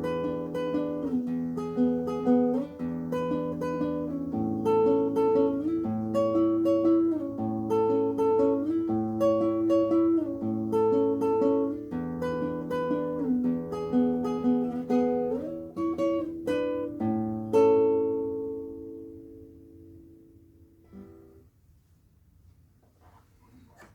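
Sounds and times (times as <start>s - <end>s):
fingerstyle acoustic guitar: 0.0s - 21.4s.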